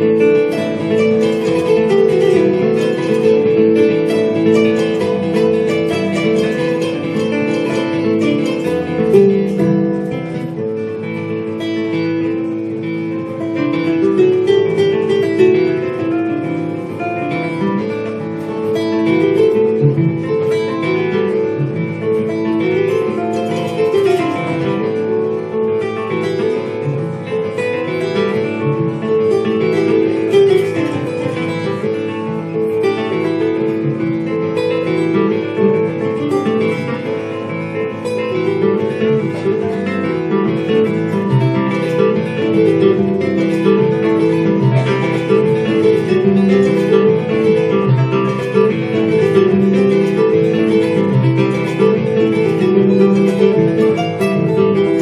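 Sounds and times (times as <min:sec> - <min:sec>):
acoustic guitar playing: 0:00.0 - 0:55.0
kora playing: 0:00.0 - 0:55.0.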